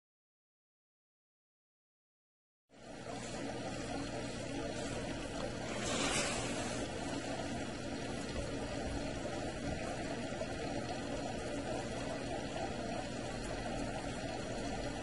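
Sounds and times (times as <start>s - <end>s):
aquarium pump humming: 2.7s - 15.0s.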